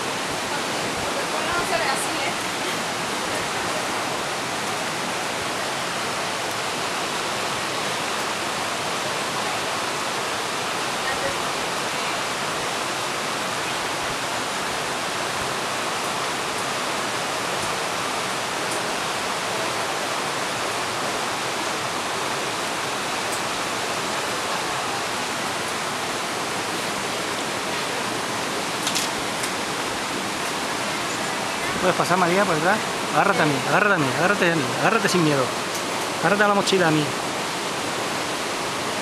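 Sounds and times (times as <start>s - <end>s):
river rushing through rock gorge: 0.0s - 39.0s.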